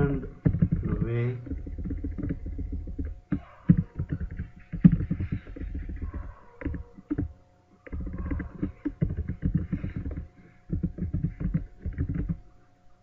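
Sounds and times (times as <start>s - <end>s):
keyboard keys tapping: 0.0s - 12.5s
faint steady hum: 0.0s - 13.0s.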